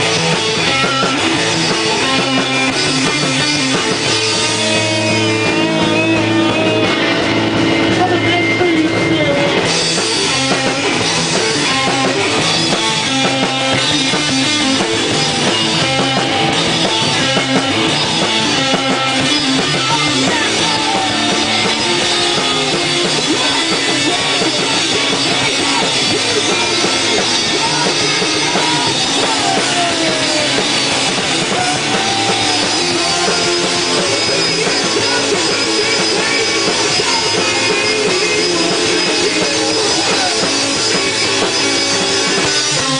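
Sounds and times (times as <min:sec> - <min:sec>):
bass: 0:00.0 - 0:42.9
drum kit: 0:00.0 - 0:42.9
guitars: 0:00.0 - 0:42.9.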